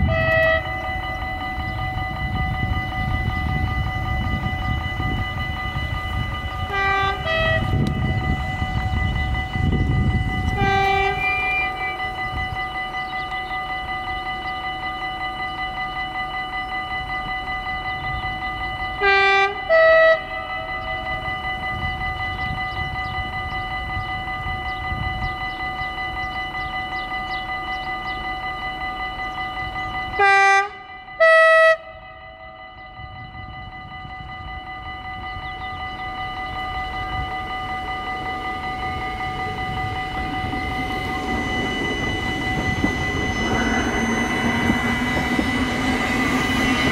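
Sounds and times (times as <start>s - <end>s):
level-crossing warning bell ringing: 0.0s - 46.9s
train two-tone horn blasts: 0.0s - 46.9s.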